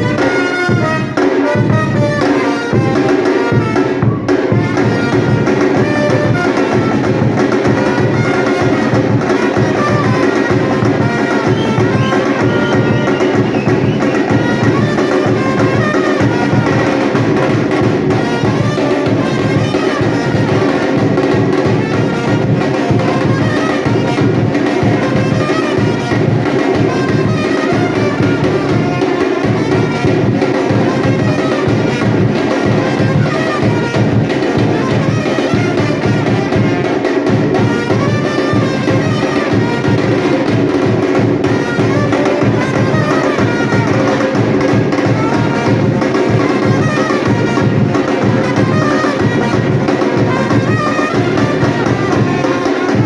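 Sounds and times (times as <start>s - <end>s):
pitched melodic percussion: 0.0s - 53.0s
samba drumming: 0.0s - 53.0s.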